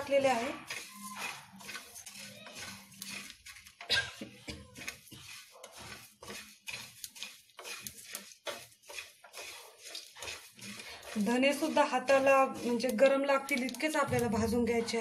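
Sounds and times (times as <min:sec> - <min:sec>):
seeds rustling and rattling: 0:00.0 - 0:14.2
metal spatula scraping pan: 0:00.0 - 0:15.0.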